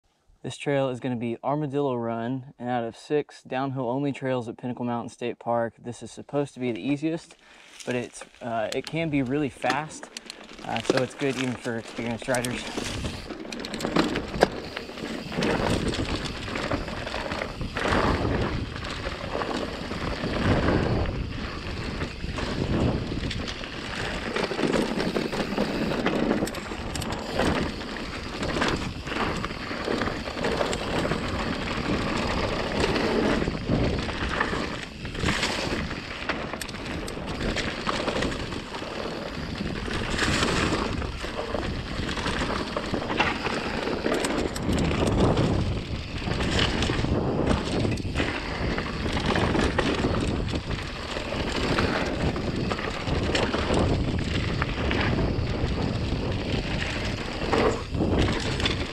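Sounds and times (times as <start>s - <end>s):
tyres rolling over dirt and leaves: 6.7s - 58.9s
wind buffeting microphone: 8.0s - 58.9s
bike knocks and rattles: 8.9s - 58.9s.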